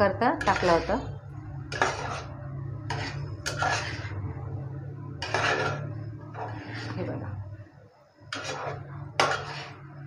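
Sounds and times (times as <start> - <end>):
metal spatula scraping steel pot: 0.0 - 4.4, 5.1 - 7.3, 8.2 - 10.0
steady low hum: 0.0 - 10.0.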